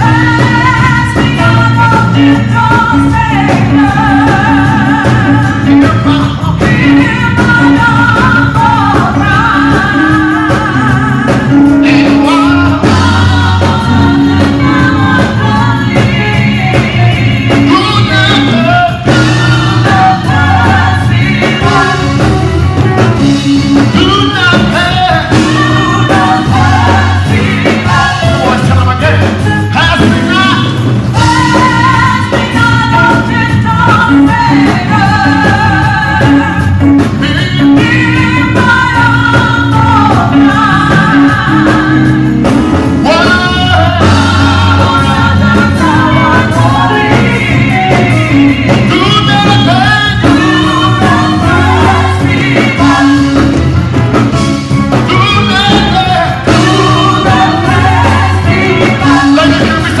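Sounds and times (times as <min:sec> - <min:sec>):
bass line: 0:00.0 - 1:00.0
electric guitar: 0:00.0 - 1:00.0
singers singing together: 0:00.0 - 1:00.0.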